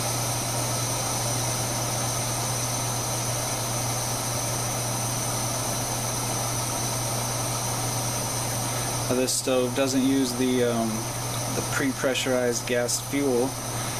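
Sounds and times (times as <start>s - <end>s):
stove burner rushing: 0.0s - 13.9s.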